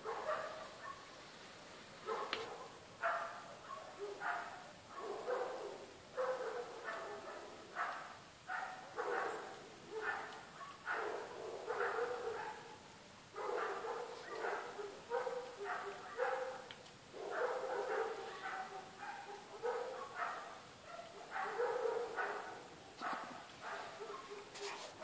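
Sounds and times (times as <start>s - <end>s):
dog barking: 0.0s - 1.1s, 2.0s - 25.0s.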